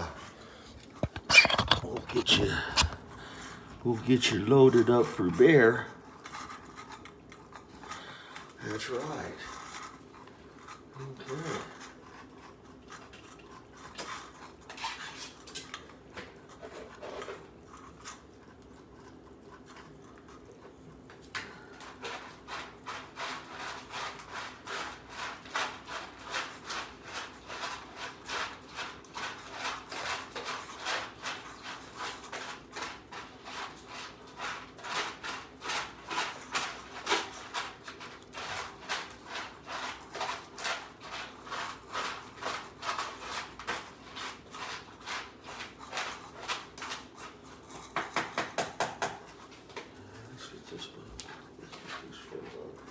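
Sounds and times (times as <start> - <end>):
cats chewing and lapping: 0.0 - 52.9.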